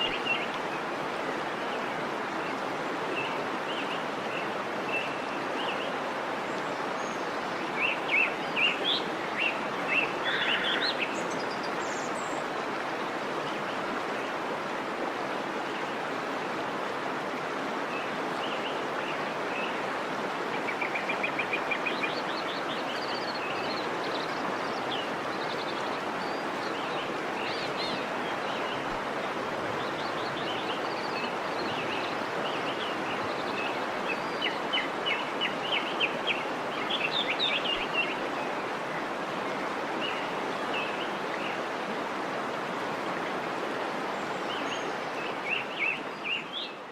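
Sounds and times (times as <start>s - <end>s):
stream water flowing: 0.0s - 46.9s.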